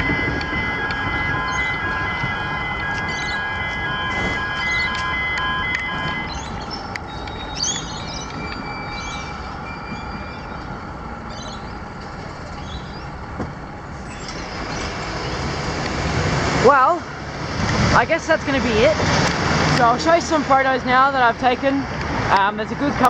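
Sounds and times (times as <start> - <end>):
level crossing alarm tones: 0.0 - 23.0
road traffic: 0.0 - 23.0.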